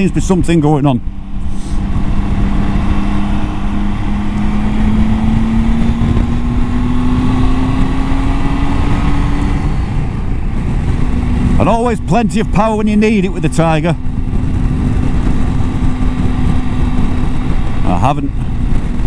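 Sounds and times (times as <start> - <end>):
motorcycle engine accelerating: 0.0 - 19.0
wind and road noise: 0.0 - 19.0.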